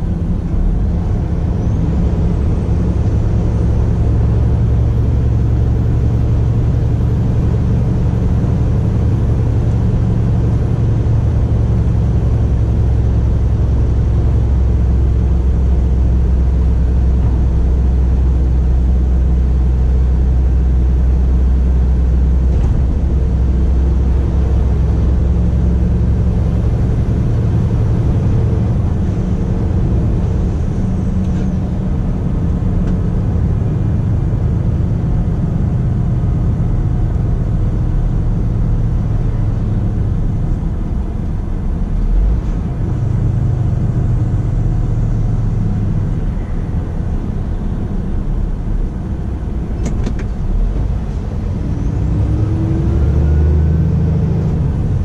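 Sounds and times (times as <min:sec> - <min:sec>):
diesel truck engine drone: 0:00.0 - 0:55.0
road noise: 0:00.0 - 0:55.0.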